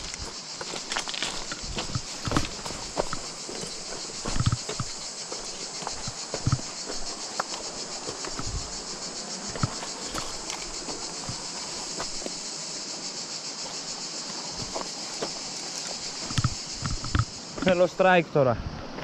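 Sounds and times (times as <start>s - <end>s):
boots crunching on loose rock: 0.0s - 12.5s, 14.4s - 17.8s
high-pitched insect chorus: 0.0s - 19.0s.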